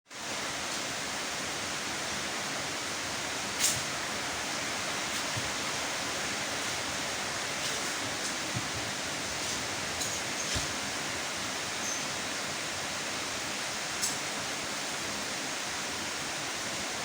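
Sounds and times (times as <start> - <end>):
steady rain falling: 0.1 - 17.0.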